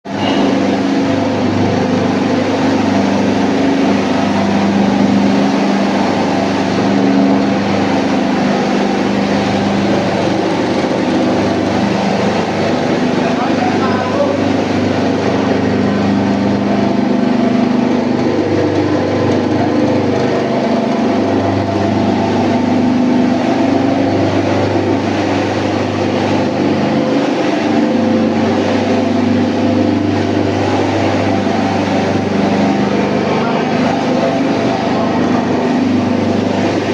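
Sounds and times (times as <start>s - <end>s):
grinding machine motor drone: 0.0s - 36.9s
grinding rush: 0.1s - 36.9s.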